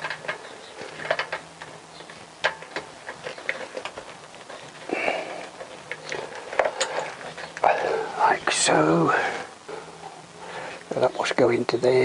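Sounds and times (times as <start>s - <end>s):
cables rustling: 0.0s - 11.7s.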